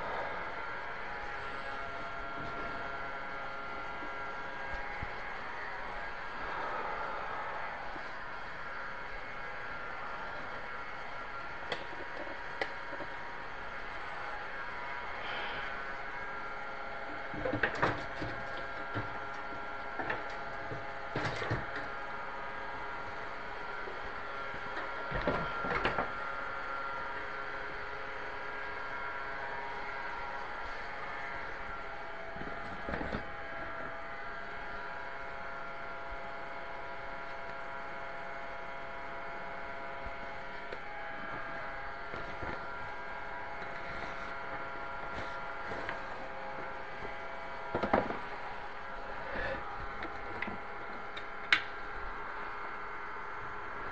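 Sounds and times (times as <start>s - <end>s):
steady multi-pitch hum: 0.0s - 53.9s.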